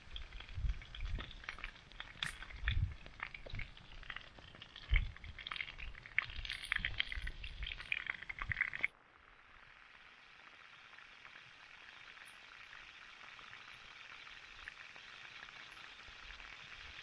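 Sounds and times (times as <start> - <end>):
meat crackling in frying oil: 0.0 - 17.0.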